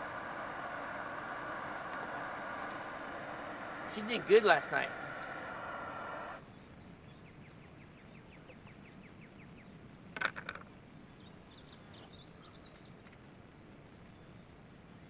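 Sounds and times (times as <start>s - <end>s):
small birds chirping: 0.0s - 10.0s, 10.6s - 14.7s.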